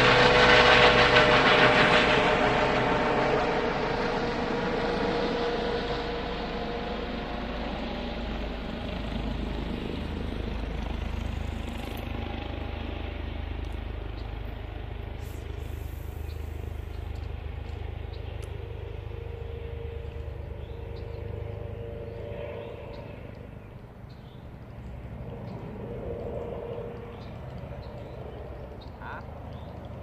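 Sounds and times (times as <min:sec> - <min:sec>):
motor engine humming: 0:00.0 - 0:30.0.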